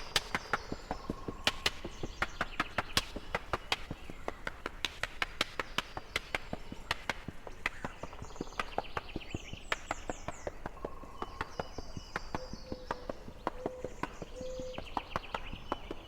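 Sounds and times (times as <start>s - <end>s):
birds singing: 0.0s - 16.0s
sharp irregular clicks: 0.0s - 16.0s.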